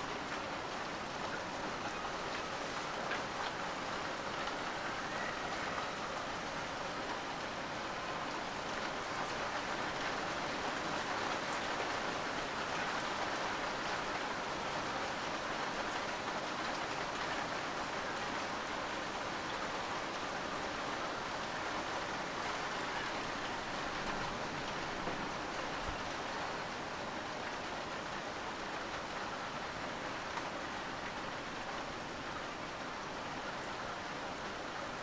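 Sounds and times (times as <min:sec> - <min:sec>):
steady rain hiss: 0:00.0 - 0:35.0.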